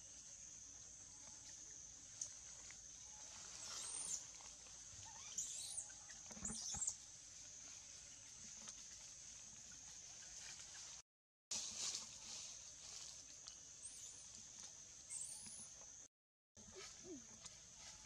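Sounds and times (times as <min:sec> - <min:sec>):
forest insects droning: 0:00.0 - 0:11.0, 0:11.8 - 0:16.1.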